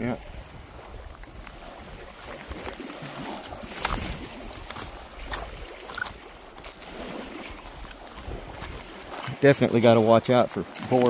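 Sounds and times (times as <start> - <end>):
water lapping on rocky shore: 0.0 - 11.0.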